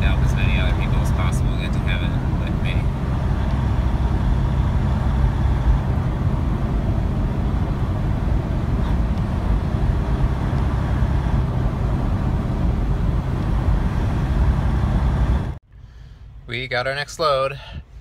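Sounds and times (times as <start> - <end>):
truck engine and road drone: 0.0 - 18.0.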